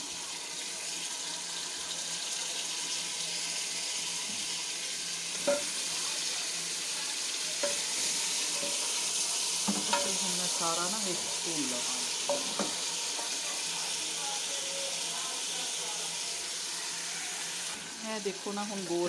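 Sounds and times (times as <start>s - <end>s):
onion and garlic sizzling in oil: 0.0s - 19.0s.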